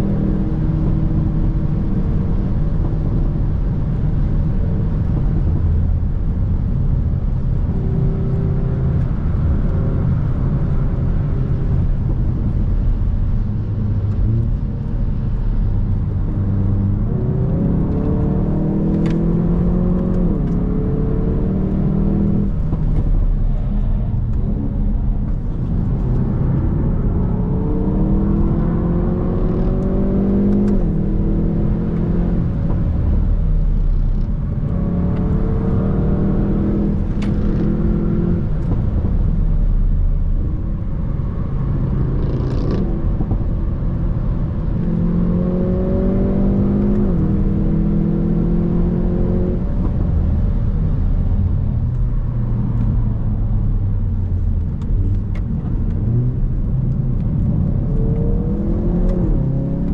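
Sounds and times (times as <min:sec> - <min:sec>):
car engine accelerating hard: 0:00.0 - 0:59.9
road rumble: 0:00.0 - 0:59.9.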